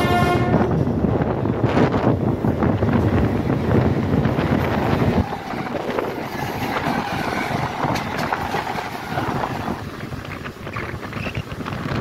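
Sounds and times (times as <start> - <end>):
wind buffeting microphone: 0.0 - 12.0
electric train wheels clattering: 0.6 - 12.0.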